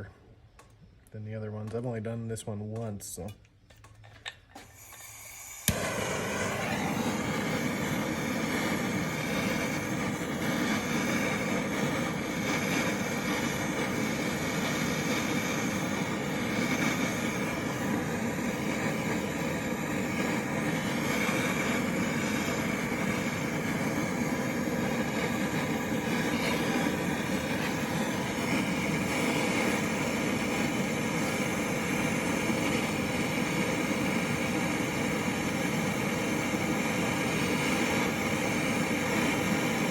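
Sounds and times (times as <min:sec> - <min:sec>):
gas torch burning: 0:00.0 - 0:39.9.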